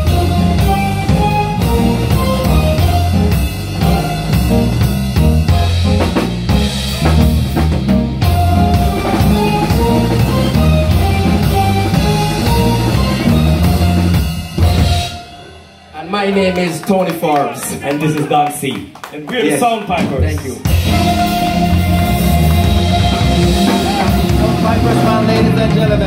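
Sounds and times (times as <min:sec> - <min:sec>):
live reggae band playing: 0:00.0 - 0:16.9, 0:20.0 - 0:26.0.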